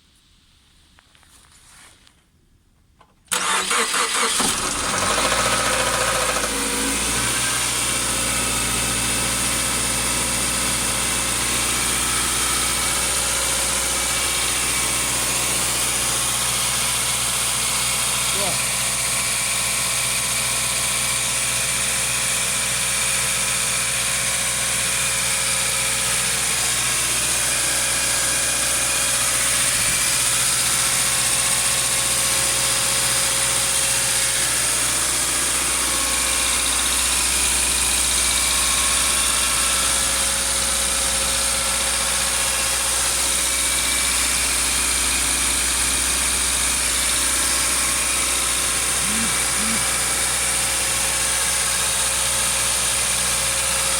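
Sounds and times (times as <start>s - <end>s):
car engine idling: 3.3s - 53.9s.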